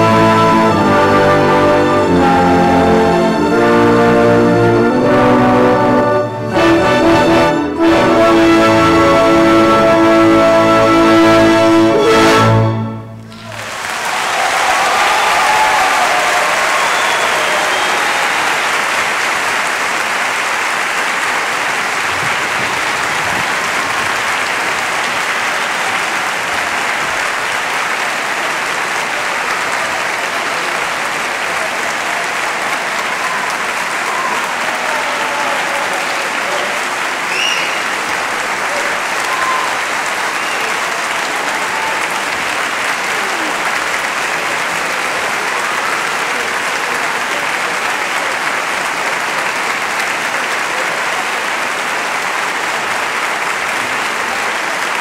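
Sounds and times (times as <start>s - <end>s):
audience applauding: 0.0s - 55.0s.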